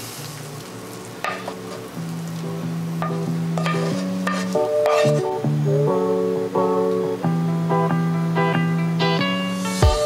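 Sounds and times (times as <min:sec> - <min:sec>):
food sizzling in pan: 0:00.0 - 0:07.5, 0:08.1 - 0:10.0
plucked guitar music: 0:00.6 - 0:10.0.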